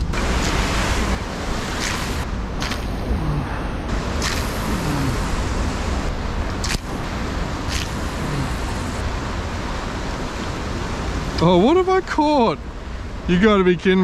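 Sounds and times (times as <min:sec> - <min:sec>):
ocean surf washing over rocks: 0:00.0 - 0:14.0
wind rumbling on microphone: 0:00.0 - 0:14.0.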